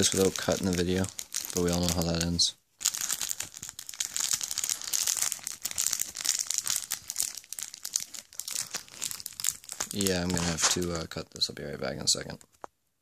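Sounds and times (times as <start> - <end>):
plastic pouch crinkling: 0.0 - 11.1.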